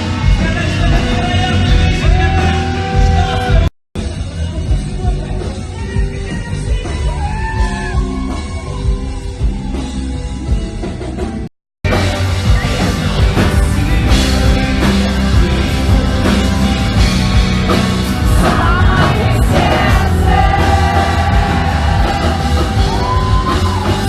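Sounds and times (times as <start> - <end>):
live pop-rock band: 0.0 - 24.0.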